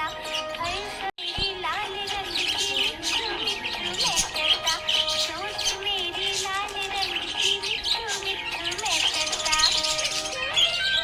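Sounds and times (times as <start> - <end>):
background music with held melody: 0.0 - 11.0
budgerigars chirping and warbling: 0.0 - 11.0.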